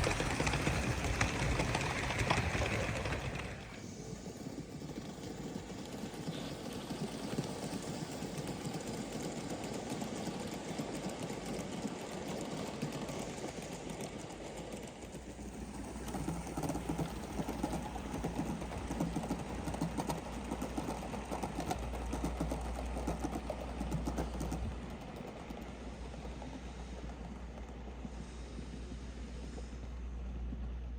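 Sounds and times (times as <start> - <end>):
model steam locomotive chuffing: 0.0 - 30.9.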